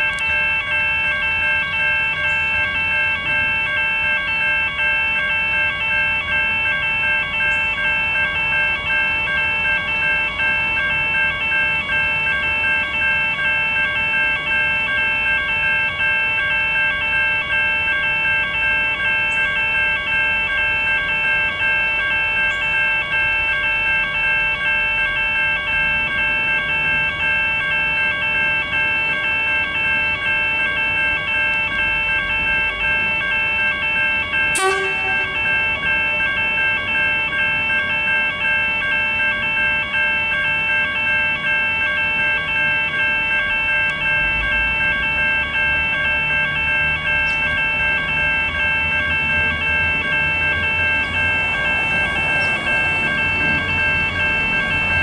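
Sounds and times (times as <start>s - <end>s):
railway crossing warning bells: 0.0s - 55.0s.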